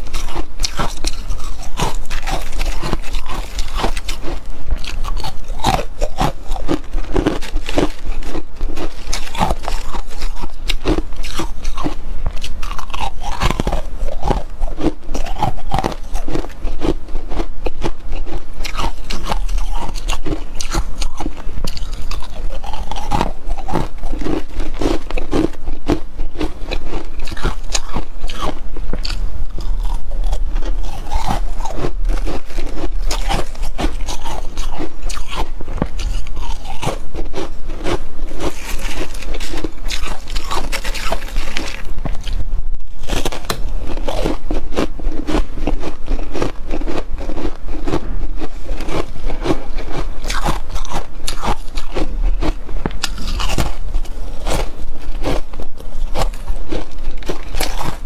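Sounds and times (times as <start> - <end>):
fingers crumbling frost: 0.0 - 58.0
frost being chewed: 0.0 - 58.0.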